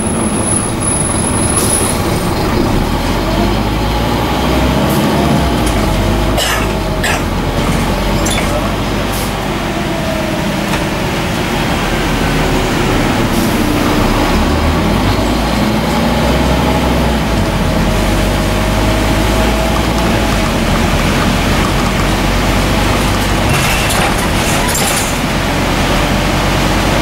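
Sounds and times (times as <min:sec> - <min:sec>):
bus engine rumble: 0:00.0 - 0:27.0
road noise: 0:00.0 - 0:27.0.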